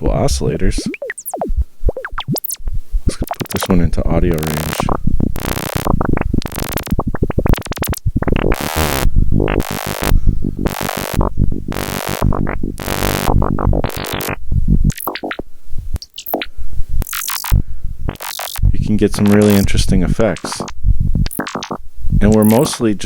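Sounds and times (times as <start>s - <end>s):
synthesizer blips clicks and noise bursts: 0.0s - 23.0s.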